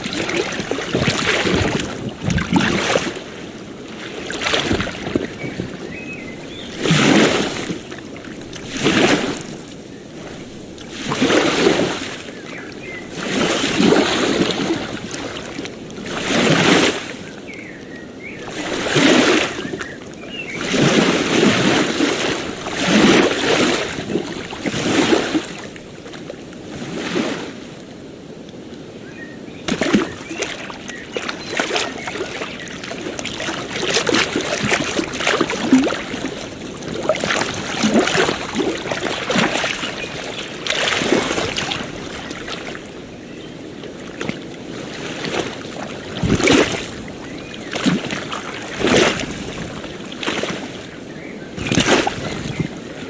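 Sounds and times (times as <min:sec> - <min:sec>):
ocean waves washing onto shore: 0:00.0 - 0:53.0.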